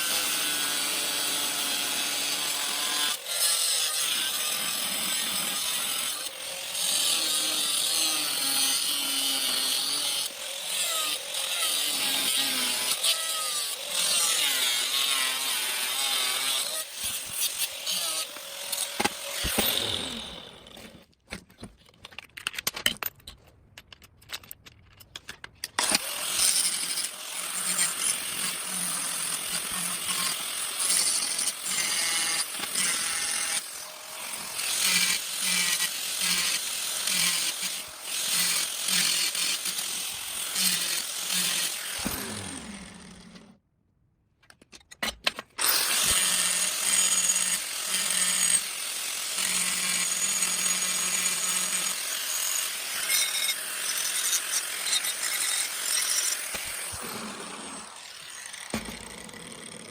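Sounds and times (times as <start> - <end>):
angle grinder grinding metal: 0.0 - 21.1, 25.8 - 43.6, 45.6 - 59.9.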